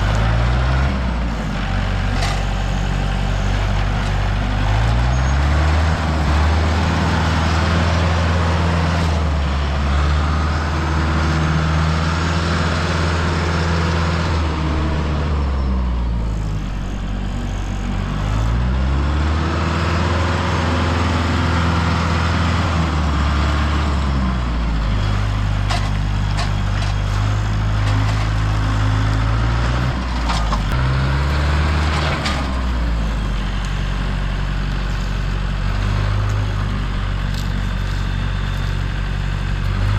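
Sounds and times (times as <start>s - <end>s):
heavy vehicle engine revving: 0.0s - 39.9s.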